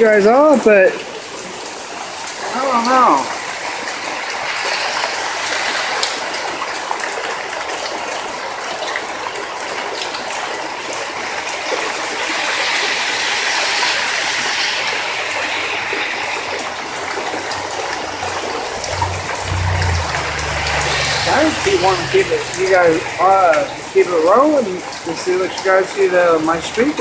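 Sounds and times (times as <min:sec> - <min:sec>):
car passing on wet street: 0:00.0 - 0:27.0
heavy rain pouring: 0:00.0 - 0:27.0
running water: 0:00.0 - 0:27.0.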